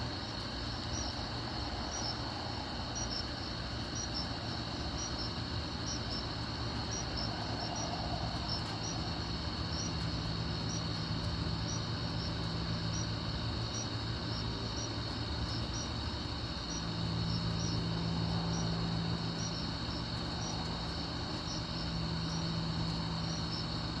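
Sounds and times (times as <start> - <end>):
crickets trilling and chirping: 0.0 - 24.0
low mechanical hum: 0.0 - 24.0.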